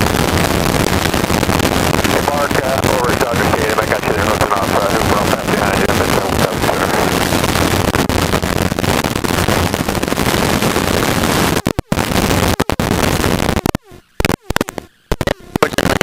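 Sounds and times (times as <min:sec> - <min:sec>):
wind buffeting microphone: 0:00.0 - 0:16.0
helicopter low hum: 0:00.2 - 0:15.9.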